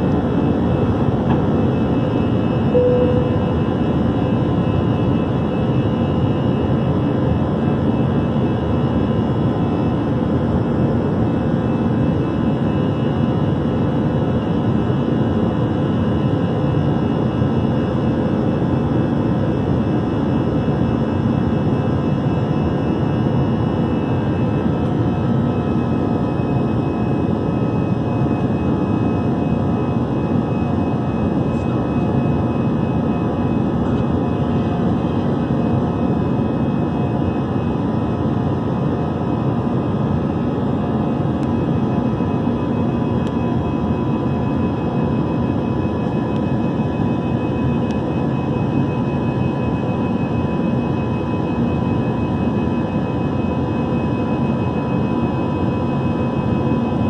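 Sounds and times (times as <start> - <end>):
airplane engine roar in flight: 0.0 - 57.0.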